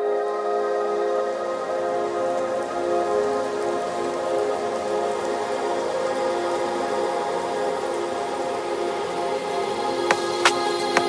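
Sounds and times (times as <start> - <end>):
ambient music with held tones: 0.0 - 11.0
rain pattering: 0.0 - 11.0.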